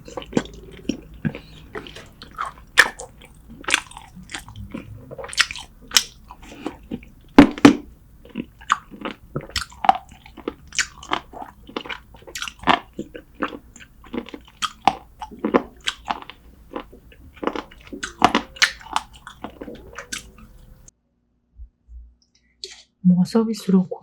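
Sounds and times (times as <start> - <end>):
person chewing and biting food: 0.0 - 20.9.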